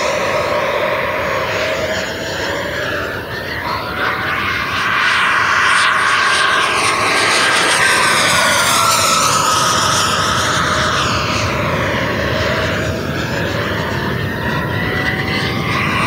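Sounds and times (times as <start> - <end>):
electric ducted fan whining: 0.0 - 16.0.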